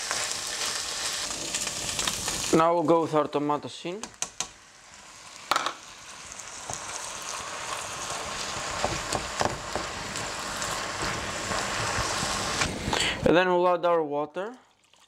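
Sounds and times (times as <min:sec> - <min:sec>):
tomatoes sizzling in a hot pan: 0:00.0 - 0:13.1.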